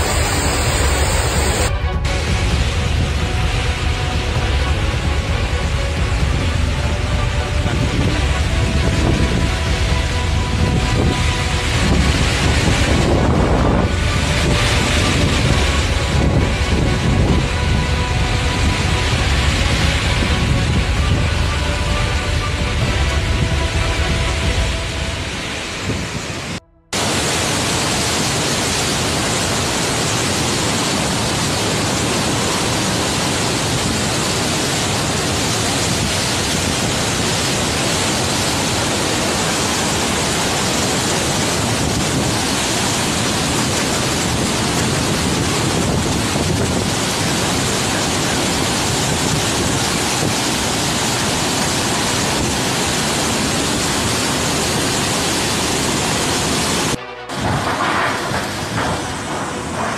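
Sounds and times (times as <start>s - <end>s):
driving rain: 0.0s - 59.9s
wind: 0.0s - 59.9s.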